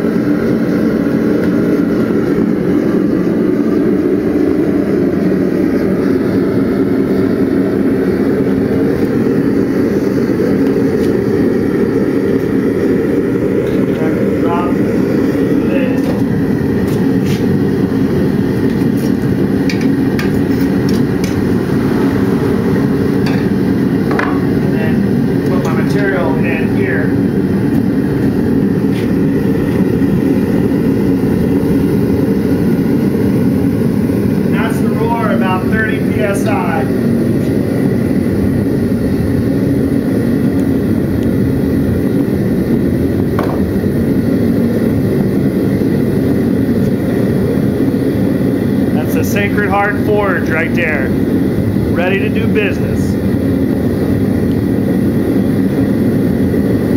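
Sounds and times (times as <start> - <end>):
gas burner roaring: 0.0 - 56.9.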